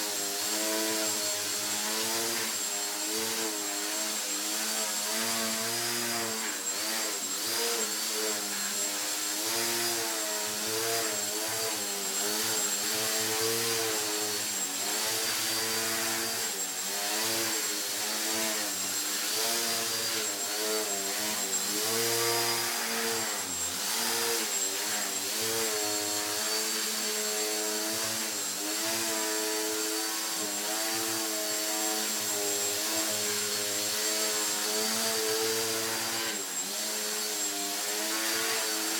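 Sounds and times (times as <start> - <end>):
model plane motor whining: 0.0 - 38.9.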